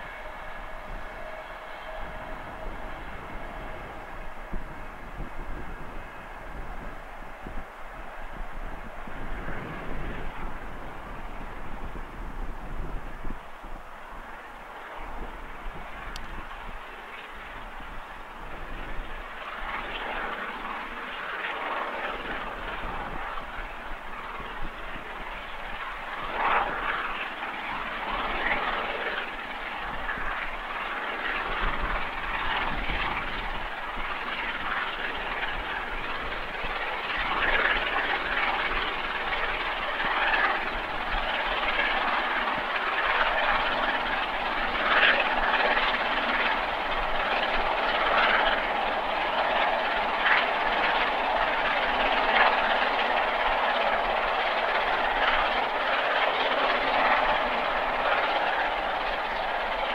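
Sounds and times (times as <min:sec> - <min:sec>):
steam locomotive exhaust: 0:00.0 - 0:21.4, 0:22.2 - 0:59.9
coaches running on rails: 0:00.0 - 0:59.9.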